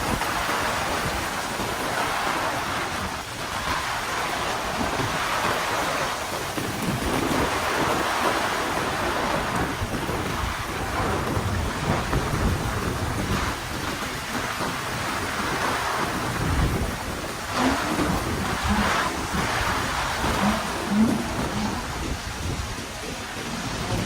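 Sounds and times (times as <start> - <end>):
heavy rain pouring: 0.0 - 24.0
thunder rumbling: 0.0 - 24.0.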